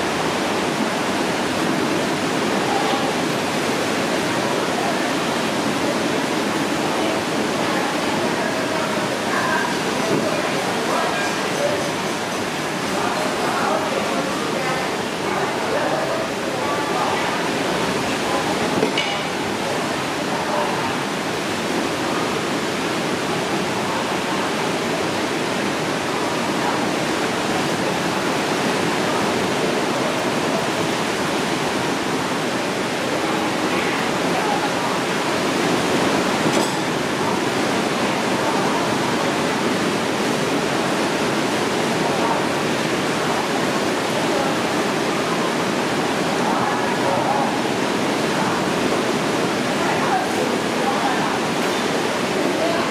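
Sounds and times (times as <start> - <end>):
faint indistinct voices: 0.0 - 52.9.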